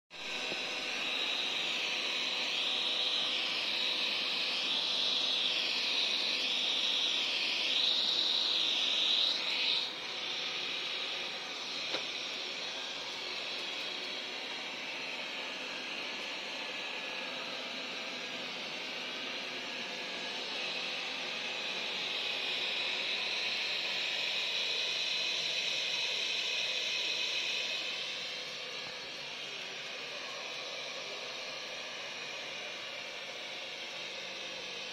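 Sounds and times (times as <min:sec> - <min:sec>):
robot vacuum whine: 0:00.2 - 0:34.9.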